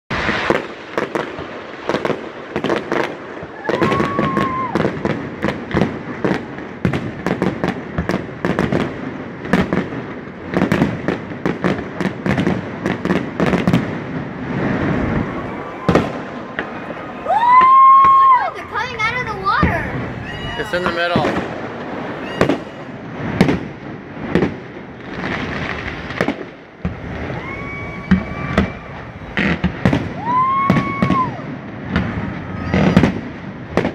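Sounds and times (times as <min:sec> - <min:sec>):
fireworks bangs: 0:00.1 - 0:33.9
whistling firework: 0:00.1 - 0:33.9.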